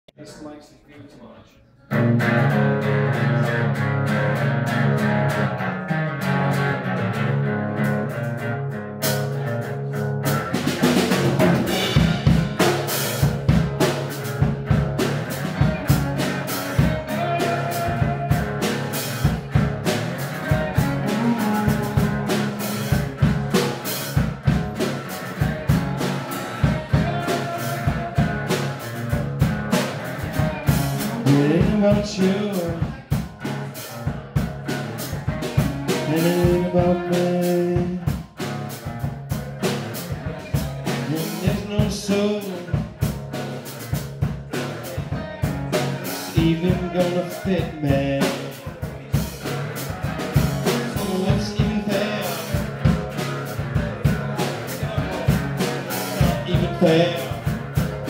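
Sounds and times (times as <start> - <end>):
band held chords: 0.1 - 58.0
strummed acoustic guitar: 1.9 - 58.0
drum kit steady beat: 9.0 - 9.4, 10.2 - 58.0.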